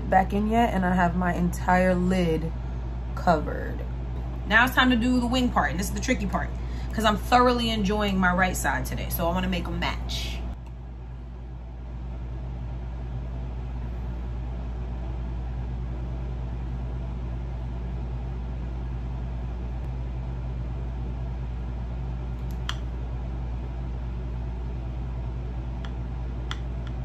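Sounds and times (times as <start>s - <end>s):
air conditioner humming: 0.0s - 27.0s.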